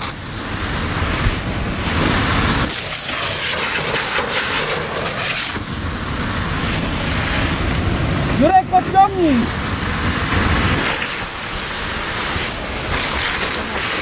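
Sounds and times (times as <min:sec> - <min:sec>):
water jet hissing spray: 0:00.0 - 0:07.6, 0:09.3 - 0:14.0.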